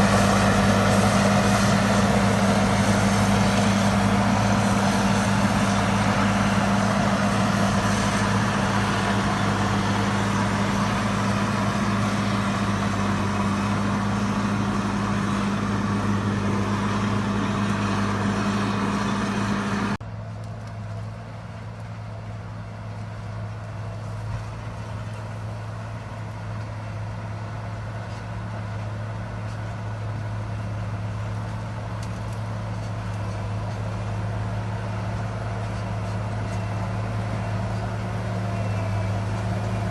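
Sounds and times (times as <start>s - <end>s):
motor grader diesel engine humming: 0.0s - 39.9s.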